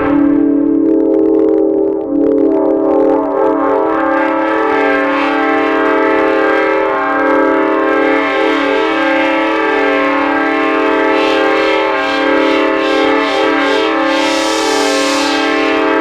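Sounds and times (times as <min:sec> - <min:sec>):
synthesizer train horn chord: 0:00.0 - 0:16.0.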